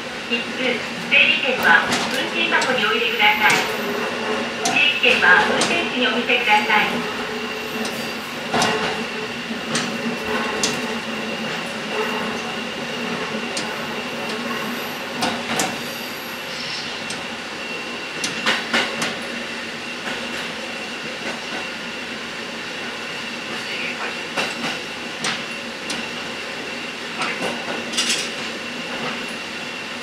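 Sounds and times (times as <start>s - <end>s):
railcar running noise: 0.0s - 30.0s.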